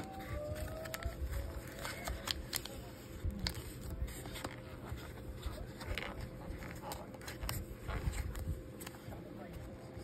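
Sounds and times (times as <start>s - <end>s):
card scraping and rustling in box: 0.0s - 9.0s.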